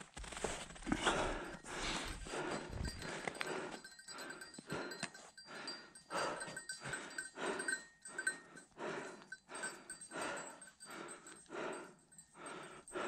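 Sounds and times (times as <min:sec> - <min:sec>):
heavy rhythmic breathing: 0:00.3 - 0:13.0.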